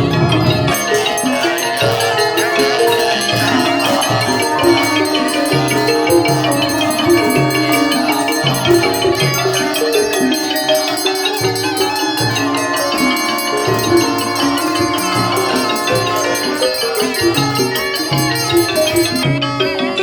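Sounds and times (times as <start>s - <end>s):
mallet melody notes: 0.0s - 19.2s
shaken percussion pulse: 0.0s - 19.2s.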